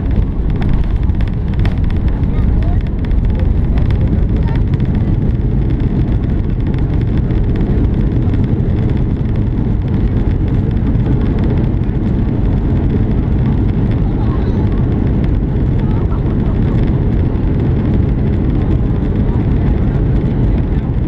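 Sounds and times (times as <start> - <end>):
low rumble of plane landing roll: 0.0 - 21.0.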